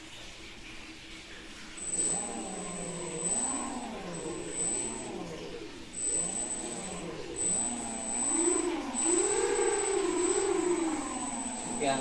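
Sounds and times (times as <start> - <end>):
electric motor propellers whining: 1.8 - 12.0.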